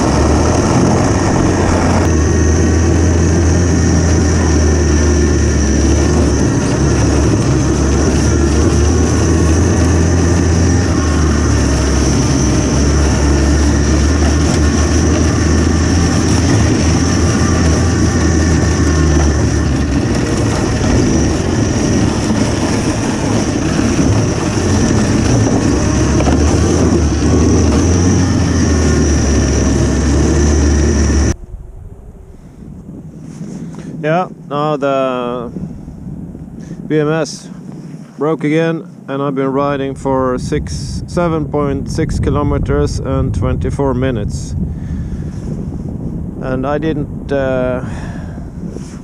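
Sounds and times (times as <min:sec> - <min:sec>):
snowmobile low drone: 0:00.0 - 0:49.0.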